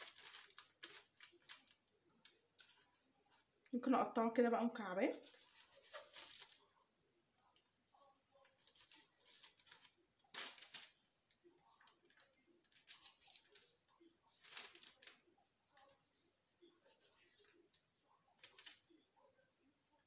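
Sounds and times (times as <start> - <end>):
parchment paper rustling: 0.0 - 3.6, 5.0 - 6.8, 8.4 - 19.1.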